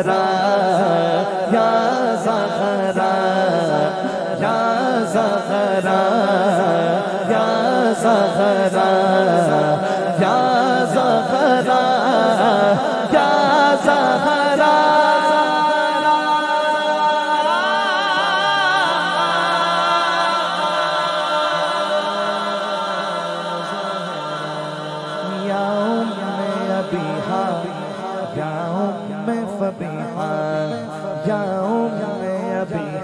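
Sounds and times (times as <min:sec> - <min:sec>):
backing singers drone: 0:00.0 - 0:33.0
man singing devotional chant: 0:00.0 - 0:33.0.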